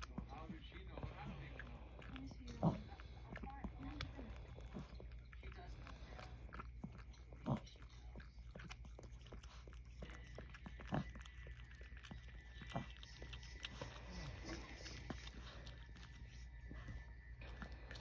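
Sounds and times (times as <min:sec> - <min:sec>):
dog licking wetly: 0:00.0 - 0:18.0.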